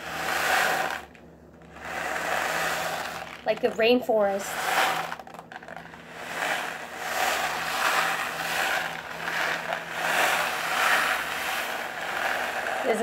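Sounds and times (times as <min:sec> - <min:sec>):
grains rolling in paper shaker: 0:00.0 - 0:13.0.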